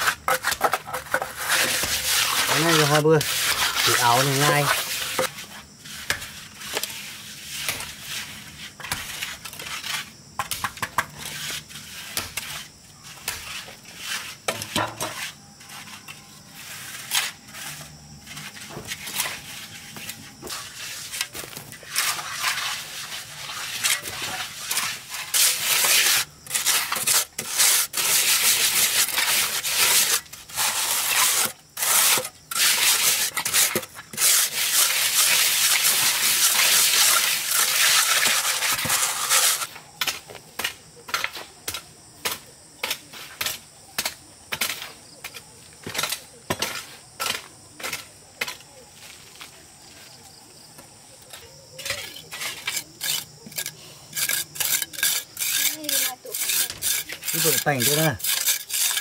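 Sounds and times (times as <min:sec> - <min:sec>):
trowel scraping mortar: 0:00.0 - 0:48.6, 0:51.3 - 0:59.0.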